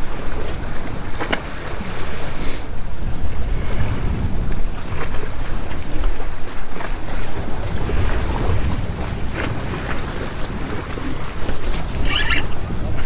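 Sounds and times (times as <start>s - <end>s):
water lapping against boat: 0.0s - 13.0s
water splashes: 0.0s - 13.0s
wind buffeting microphone: 0.0s - 13.0s.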